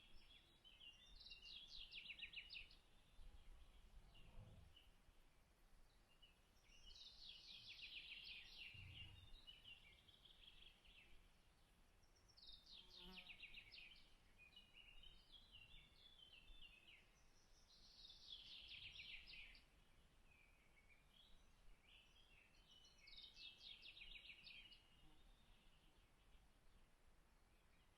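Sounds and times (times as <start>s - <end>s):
songbird singing faintly: 0.0s - 27.9s.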